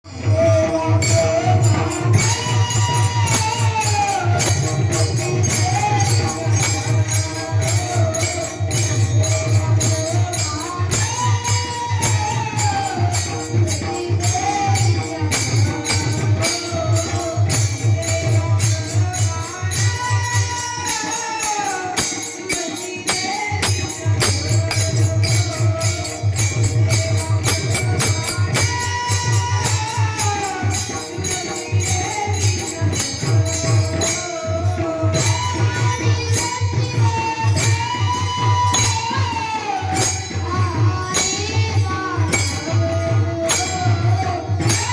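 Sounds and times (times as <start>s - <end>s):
drum beating steadily: 0.0s - 44.9s
hand cymbals struck: 0.0s - 44.9s
person singing devotional song: 0.0s - 44.9s.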